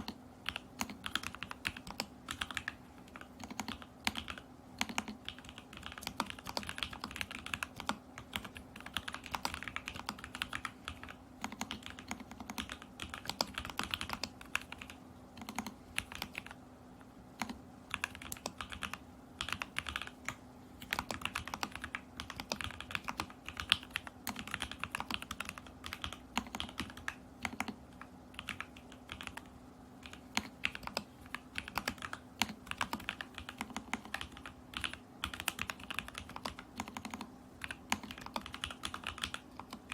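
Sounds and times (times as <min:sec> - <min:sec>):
typing on mechanical keyboard: 0:00.0 - 0:16.6, 0:17.4 - 0:39.9.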